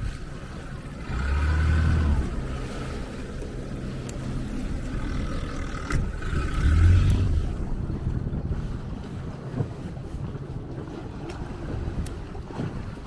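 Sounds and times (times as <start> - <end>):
motorboat engine droning: 0.0 - 13.0
water noise: 0.0 - 13.0
wind: 0.0 - 13.0.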